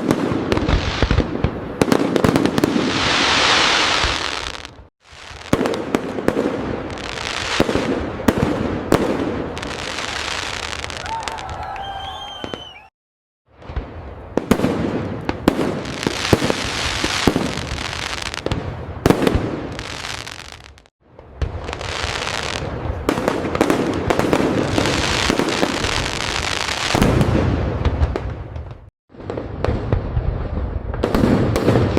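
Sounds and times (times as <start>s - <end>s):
fireworks booming: 0.0s - 12.9s, 13.5s - 31.9s
fireworks crackling: 0.0s - 12.9s, 13.5s - 31.9s.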